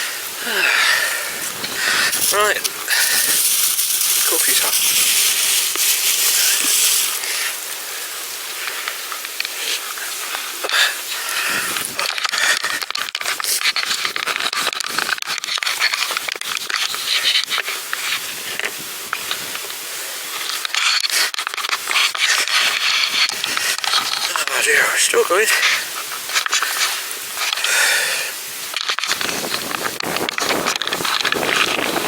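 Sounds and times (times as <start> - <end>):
bag rustling and crinkling: 0.0 - 12.2, 12.8 - 32.0
loud hiss: 0.0 - 12.2, 17.0 - 32.0.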